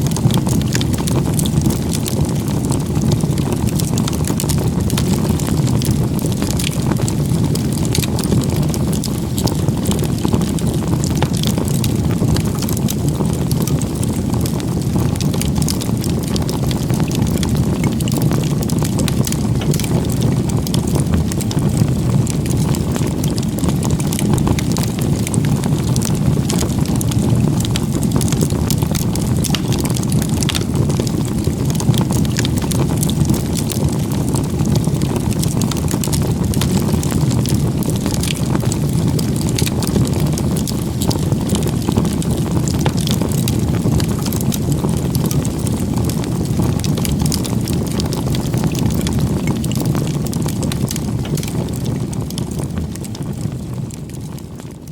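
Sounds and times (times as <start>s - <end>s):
campfire flame rumble: 0.0s - 54.9s
fire crackling and popping: 0.0s - 54.9s.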